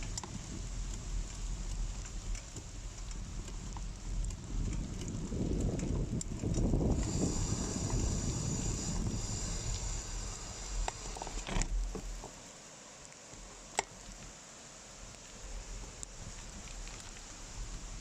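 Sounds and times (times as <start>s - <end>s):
wind and tyres rumbling: 0.0s - 18.0s.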